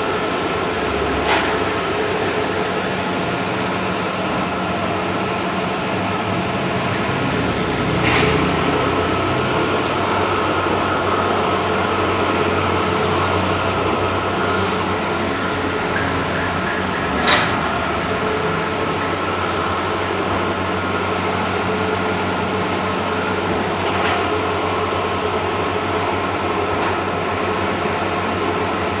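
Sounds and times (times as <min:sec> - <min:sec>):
printer whirring and humming: 0:00.0 - 0:29.0.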